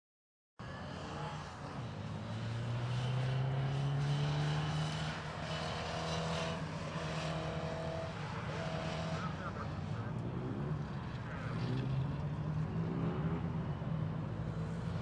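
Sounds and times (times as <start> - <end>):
car engine accelerating: 0.6 - 15.0.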